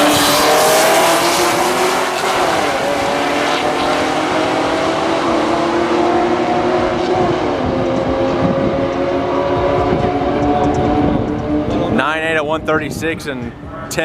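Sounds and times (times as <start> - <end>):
cars accelerating at full throttle: 0.0 - 12.7.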